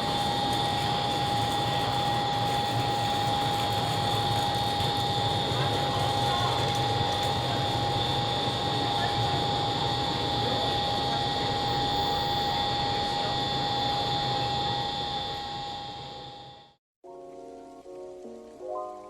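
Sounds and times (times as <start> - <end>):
high-speed train rushing: 0.0 - 15.8.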